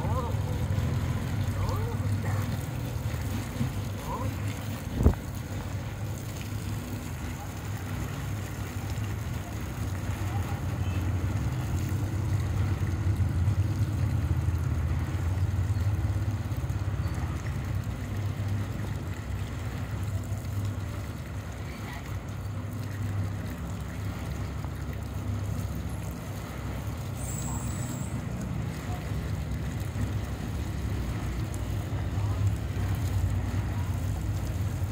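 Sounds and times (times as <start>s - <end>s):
engine droning: 0.0s - 34.9s.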